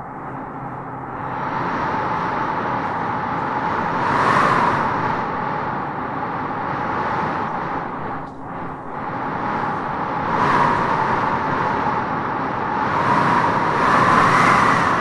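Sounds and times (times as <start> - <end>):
wind blowing in gusts: 0.0 - 15.0.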